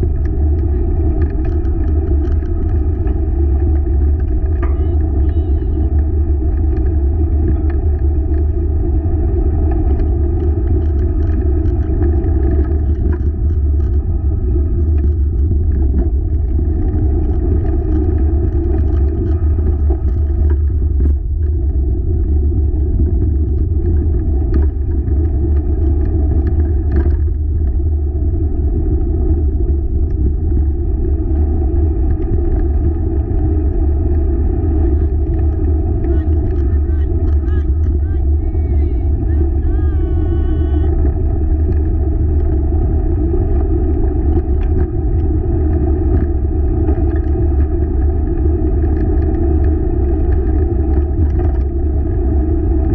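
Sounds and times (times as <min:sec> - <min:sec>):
small rattles and clicks: 0:00.0 - 0:21.8, 0:22.9 - 0:27.9, 0:29.0 - 0:52.9
wheeled rig rumbling on trail: 0:00.0 - 0:52.9.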